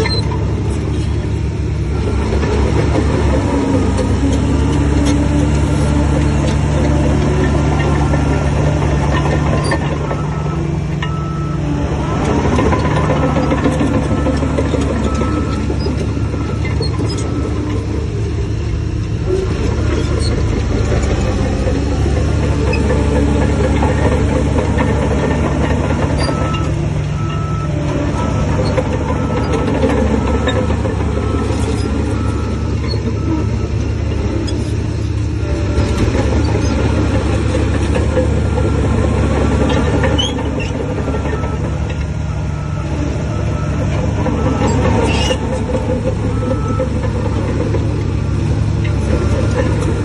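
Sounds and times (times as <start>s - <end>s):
bulldozer diesel engine running: 0.0s - 50.0s.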